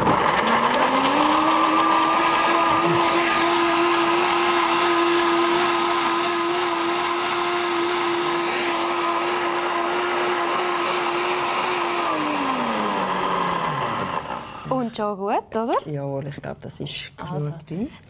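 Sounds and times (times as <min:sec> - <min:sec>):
blender motor running: 0:00.0 - 0:14.8.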